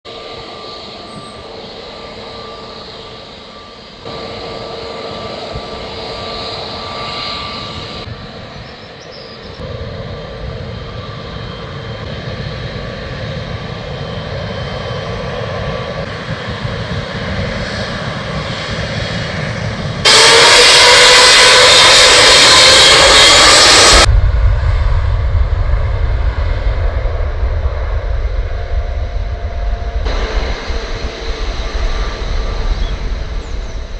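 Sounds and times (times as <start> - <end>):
jet engines at takeoff thrust: 0.0 - 33.9
jet engines whining while taxiing: 0.0 - 33.9.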